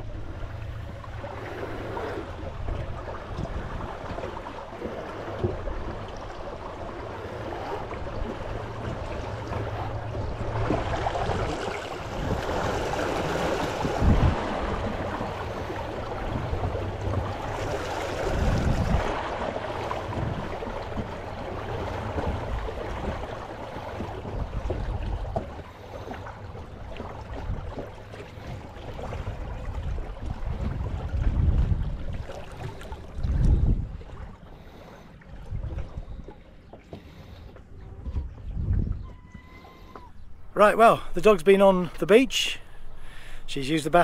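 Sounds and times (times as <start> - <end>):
wind rumble on microphone: 0.0 - 34.4, 35.3 - 40.6
water splashing and lapping: 0.0 - 44.0.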